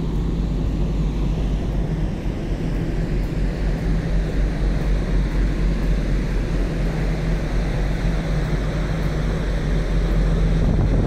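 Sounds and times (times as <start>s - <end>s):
ship engines humming: 0.0s - 11.0s
wind and sea rushing: 0.0s - 11.0s.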